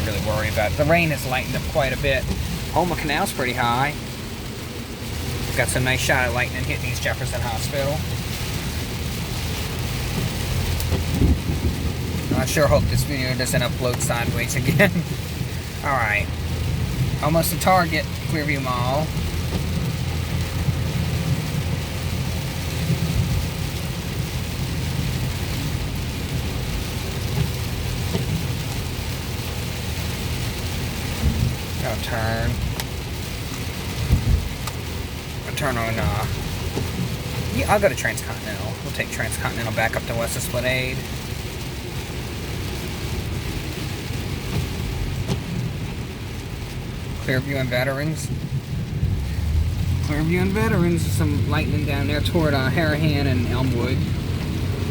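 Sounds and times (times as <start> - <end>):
car road and engine rumble: 0.0 - 54.9
rain hissing on car: 0.0 - 54.9.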